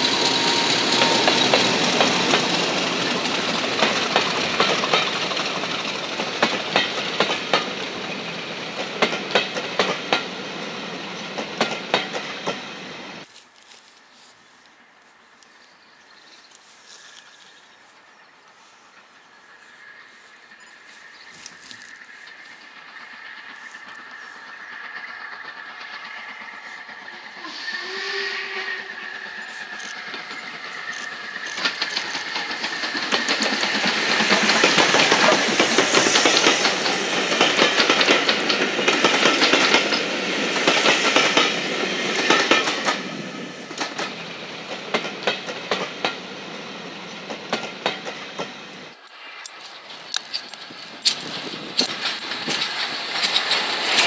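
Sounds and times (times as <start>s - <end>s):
steam locomotive exhaust beats: 0.0s - 13.2s, 19.0s - 49.0s
train wheels clicking over rail joints: 0.0s - 13.3s, 20.7s - 54.0s.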